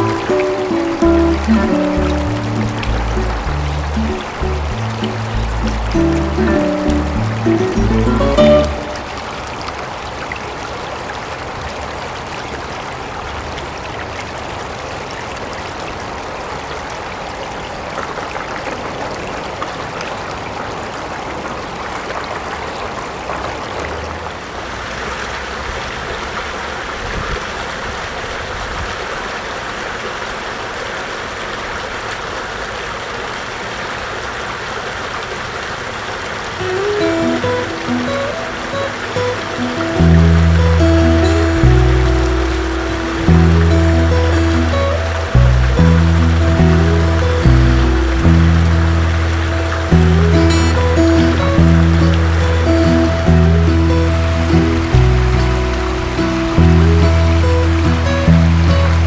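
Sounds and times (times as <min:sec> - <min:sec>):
creek babbling: 0:00.0 - 0:59.0.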